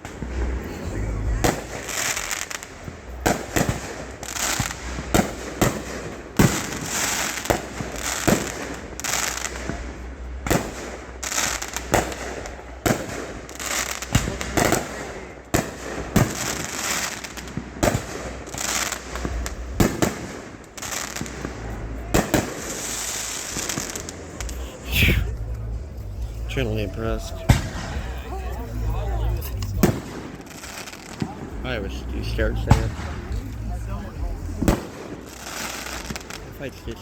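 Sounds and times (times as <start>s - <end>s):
firework crackling: 0.0s - 37.0s.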